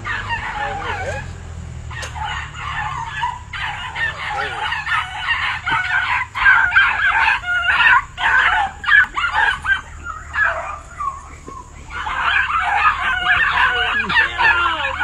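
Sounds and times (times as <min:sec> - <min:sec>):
hound dogs yelping and baying: 0:00.0 - 0:15.0.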